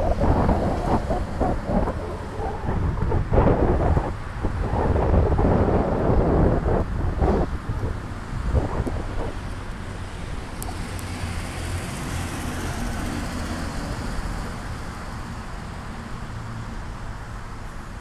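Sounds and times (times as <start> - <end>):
wind on microphone: 0.0 - 14.9
expressway traffic rumble: 0.0 - 18.0.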